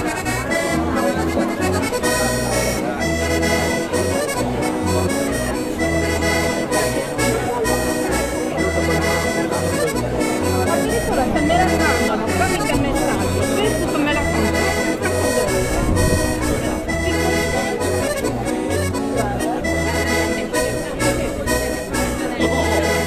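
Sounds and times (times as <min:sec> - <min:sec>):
accordion bass notes pulsing: 0:00.0 - 0:23.0
accordion playing folk tune: 0:00.0 - 0:23.0.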